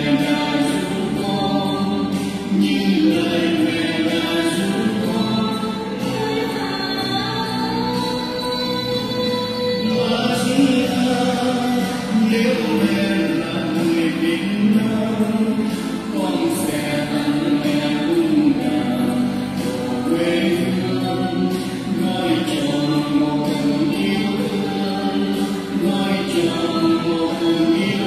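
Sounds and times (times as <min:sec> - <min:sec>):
hymn sung with accompaniment: 0:00.0 - 0:28.0.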